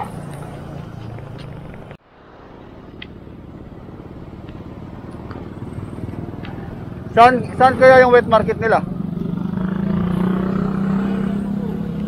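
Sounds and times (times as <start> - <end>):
passing motorcycle engine hum: 0.0 - 12.0
road and wind noise: 0.0 - 12.0.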